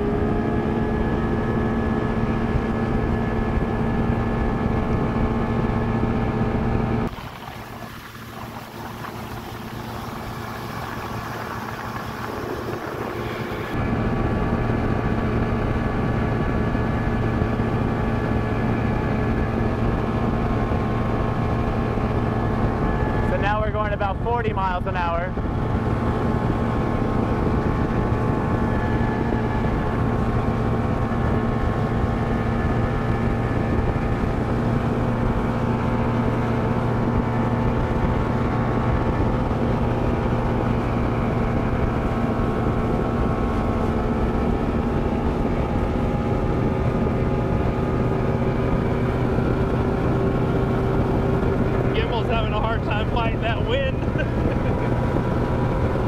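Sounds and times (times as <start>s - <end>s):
outboard motor droning: 0.0s - 56.0s
wind on microphone: 0.0s - 56.0s.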